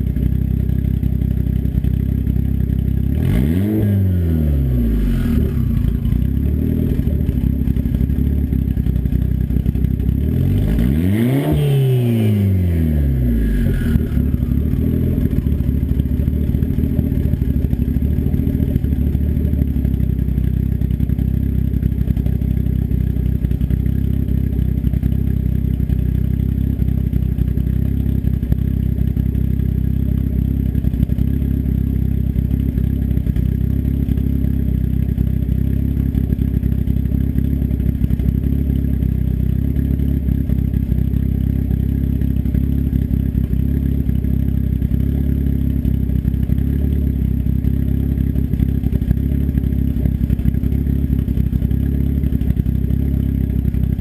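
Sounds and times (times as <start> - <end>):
turbocharged engine idling: 0.0 - 54.0.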